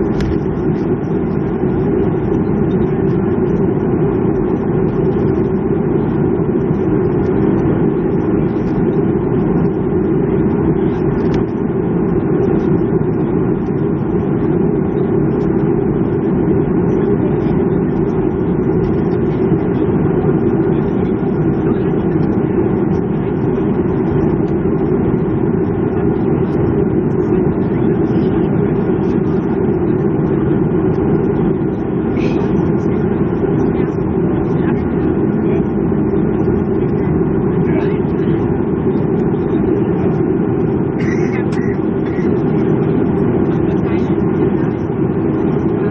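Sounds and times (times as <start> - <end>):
jet engine drone in cabin: 0.0 - 45.9.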